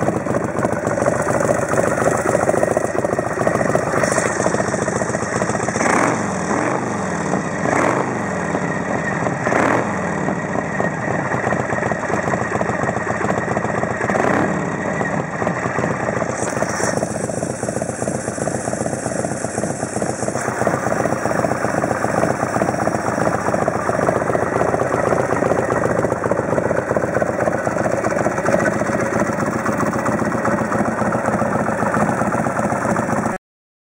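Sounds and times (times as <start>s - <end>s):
motorcycle engine revving and idling: 0.0s - 33.4s.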